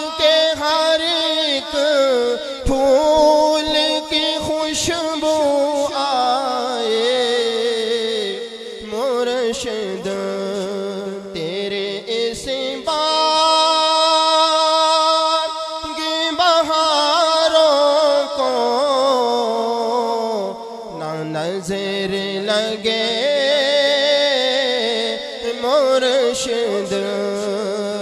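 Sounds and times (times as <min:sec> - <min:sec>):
man chanting into a microphone: 0:00.0 - 0:28.0.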